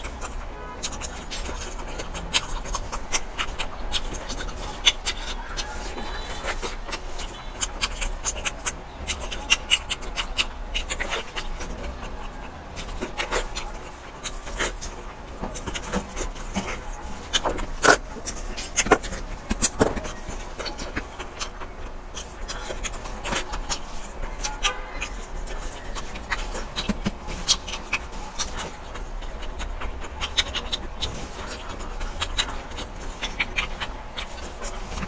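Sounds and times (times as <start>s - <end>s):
person chewing and lip smacking: 0.0s - 35.0s.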